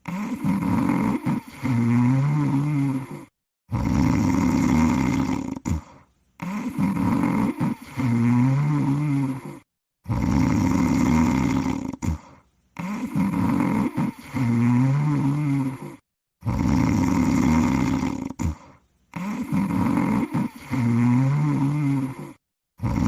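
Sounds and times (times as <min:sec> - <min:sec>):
person snoring: 0:00.0 - 0:23.0.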